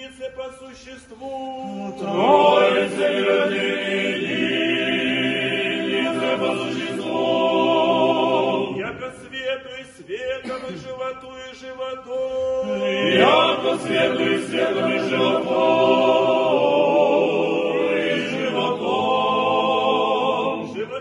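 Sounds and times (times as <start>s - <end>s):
male choir singing chant: 0.0s - 10.6s, 11.6s - 21.0s.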